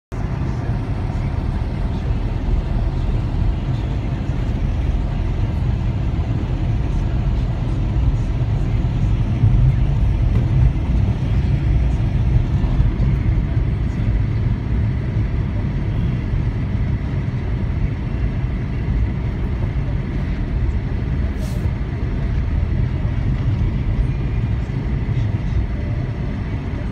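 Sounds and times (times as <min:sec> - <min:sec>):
car engine and tyre rumble: 0:00.1 - 0:26.9.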